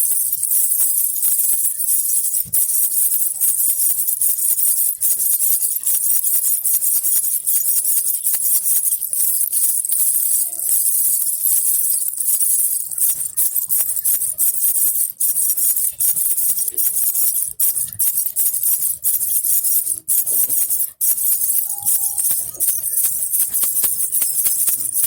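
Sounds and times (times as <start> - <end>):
baby rattle bells jingling: 0.0 - 25.0.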